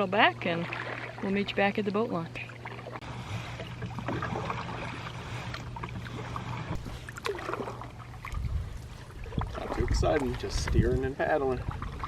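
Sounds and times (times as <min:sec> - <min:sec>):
steady low hum: 0:00.0 - 0:12.0
paddle strokes in water: 0:00.4 - 0:01.4, 0:02.4 - 0:12.0.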